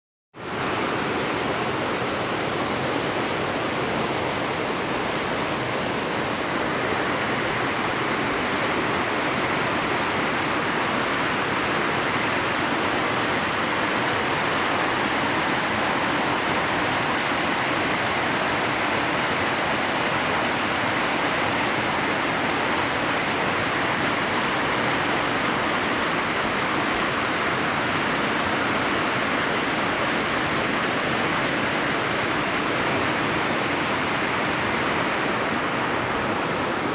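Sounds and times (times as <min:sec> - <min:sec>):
floodwater rushing river: 0:00.4 - 0:36.9.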